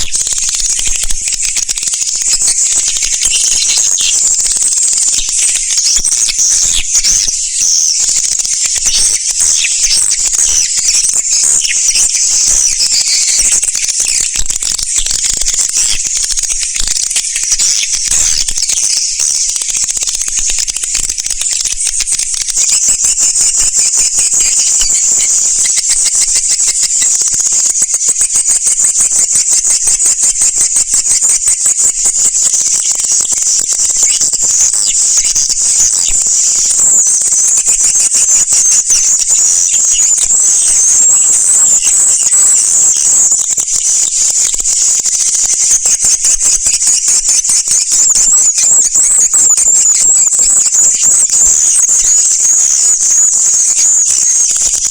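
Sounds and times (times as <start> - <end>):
swiftlets chirping and twittering: 0.0 - 54.9.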